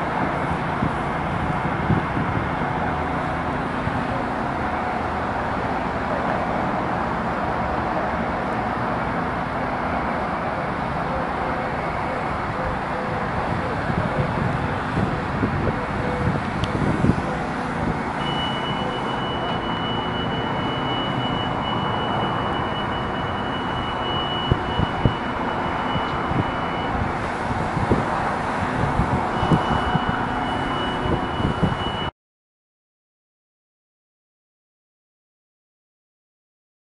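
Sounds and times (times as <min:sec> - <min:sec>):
vehicle hum: 0:00.0 - 0:32.1.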